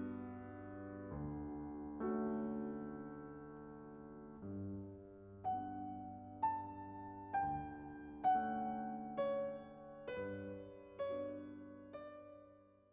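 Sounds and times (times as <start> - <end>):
slow gentle piano music: 0.0 - 12.9.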